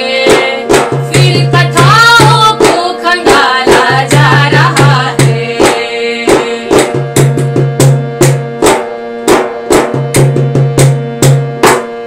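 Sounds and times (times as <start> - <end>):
hand drum quick rhythm: 0.0 - 12.0
harmonium notes: 0.0 - 12.0.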